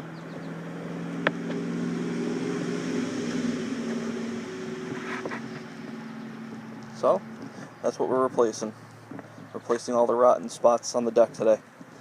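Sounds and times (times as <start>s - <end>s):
engine running: 0.0s - 9.9s.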